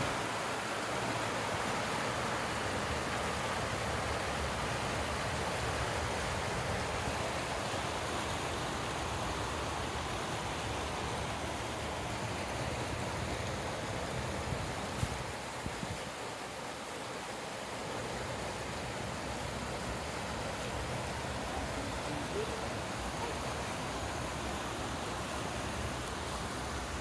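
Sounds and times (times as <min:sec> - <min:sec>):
water rushing over weir: 0:00.0 - 0:27.0.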